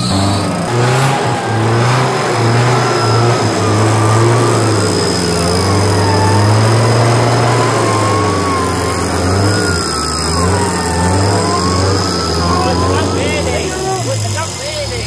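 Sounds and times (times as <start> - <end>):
wavering whine: 0.0 - 14.9
off-road vehicle running: 0.0 - 15.0.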